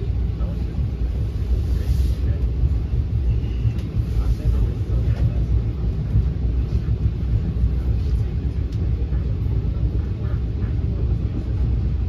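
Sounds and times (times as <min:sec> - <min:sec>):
train coach rumbling on track: 0:00.0 - 0:12.0.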